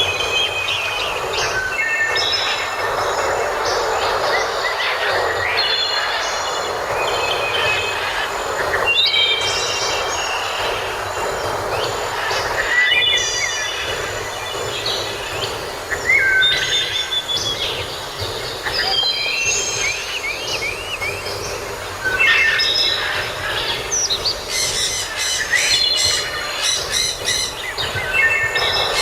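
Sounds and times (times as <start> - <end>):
songbirds singing: 0.0 - 29.0
steady rushing hiss: 0.0 - 29.0.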